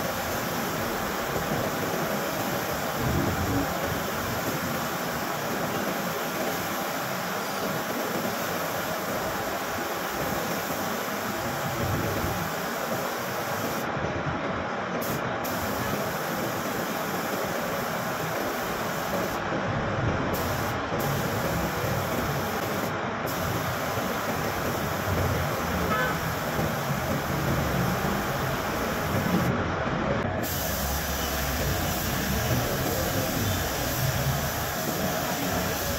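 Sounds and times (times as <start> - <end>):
paint spray gun hissing: 0.0 - 13.9, 15.0 - 19.4, 20.3 - 29.5, 30.4 - 35.9.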